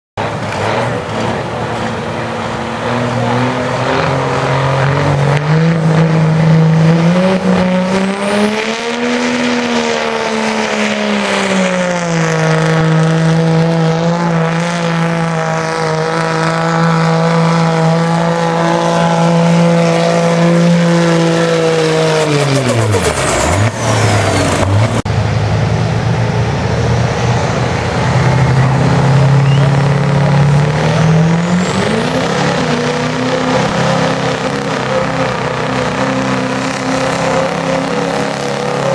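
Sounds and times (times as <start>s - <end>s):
diesel truck engine at full throttle: 0.2s - 38.9s.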